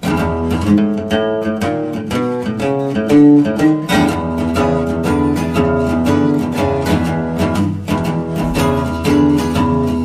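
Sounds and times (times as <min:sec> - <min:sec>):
plucked guitar notes: 0:00.0 - 0:10.0.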